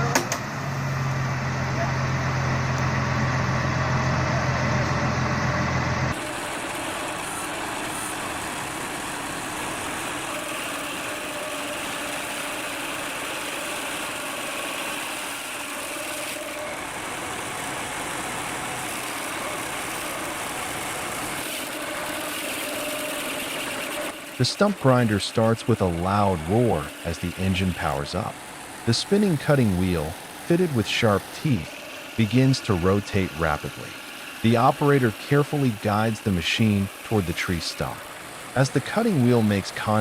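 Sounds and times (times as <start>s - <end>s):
heavy machinery engine running: 0.0s - 40.0s.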